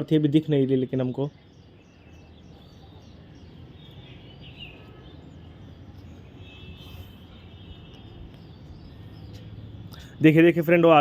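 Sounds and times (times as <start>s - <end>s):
faint bird chirps: 1.0s - 10.4s.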